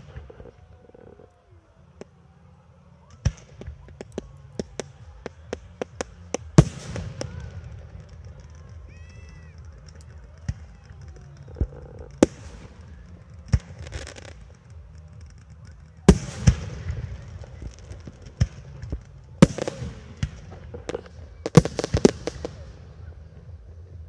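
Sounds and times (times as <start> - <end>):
fireworks crackling: 0.0 - 24.0
fireworks bangs: 3.0 - 24.0.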